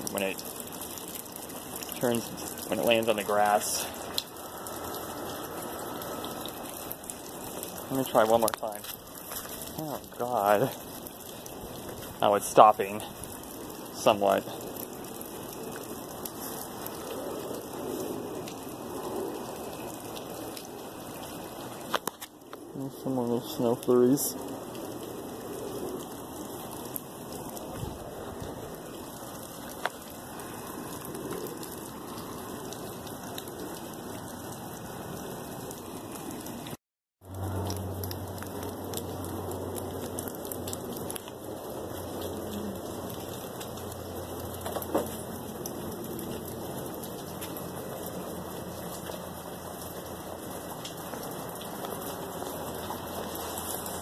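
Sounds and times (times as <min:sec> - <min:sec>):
wet snow pattering on leaves: 0:00.0 - 0:54.0.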